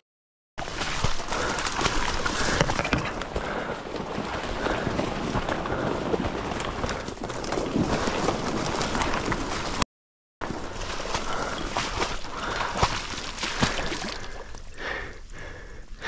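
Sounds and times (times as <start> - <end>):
hurried footsteps on rough ground: 0.6 - 9.8, 10.4 - 15.7.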